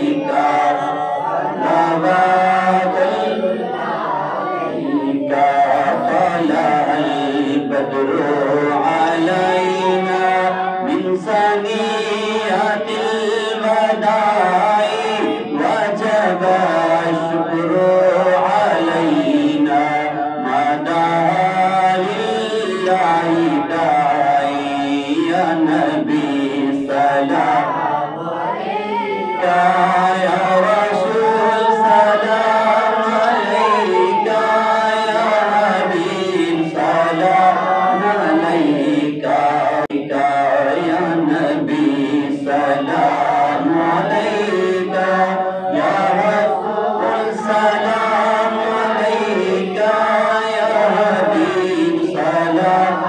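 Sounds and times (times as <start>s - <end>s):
backing voices: 0.0s - 53.0s
man singing devotional song: 0.0s - 53.0s.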